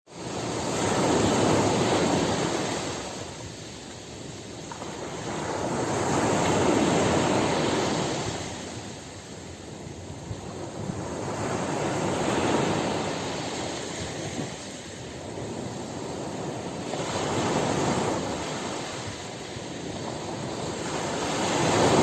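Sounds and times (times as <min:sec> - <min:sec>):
ocean waves breaking on beach: 0:00.1 - 0:22.0.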